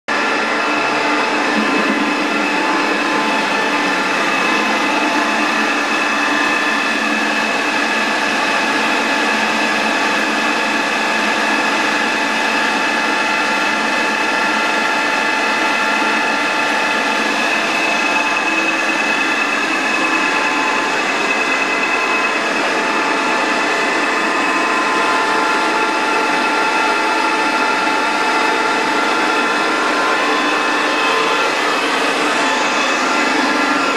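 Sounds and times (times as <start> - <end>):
lathe running with whine: 0.1 - 33.9.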